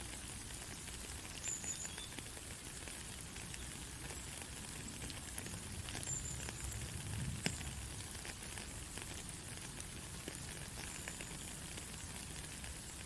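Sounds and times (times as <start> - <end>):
raindrops ticking: 0.0 - 13.0
steady rain hiss: 0.0 - 13.0.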